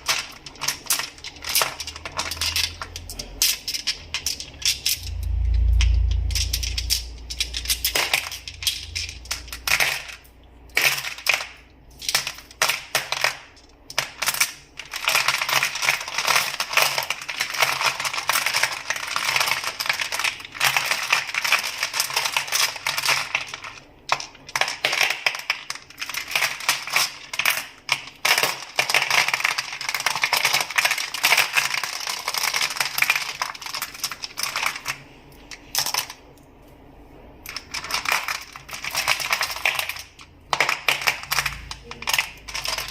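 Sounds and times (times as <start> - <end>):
crystals clacking together: 0.0 - 36.6, 37.4 - 42.9.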